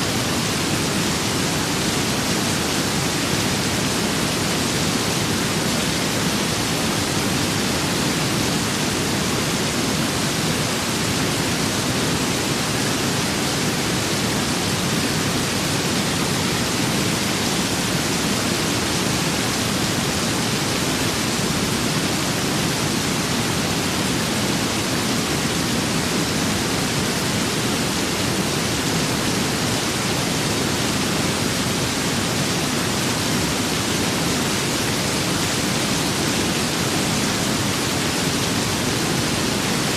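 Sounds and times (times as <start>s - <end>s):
steady rain with wind: 0.0s - 39.9s.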